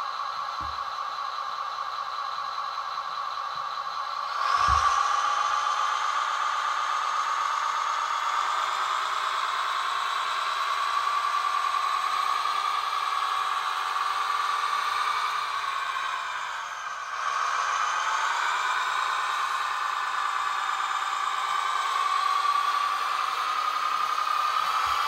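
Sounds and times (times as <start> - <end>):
toy truck motor running: 0.0 - 25.0.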